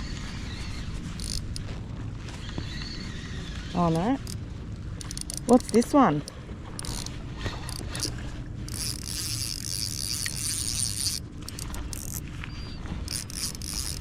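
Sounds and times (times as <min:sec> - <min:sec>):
fishing reel whirring: 0:00.0 - 0:14.0
low background rumble: 0:00.0 - 0:14.0.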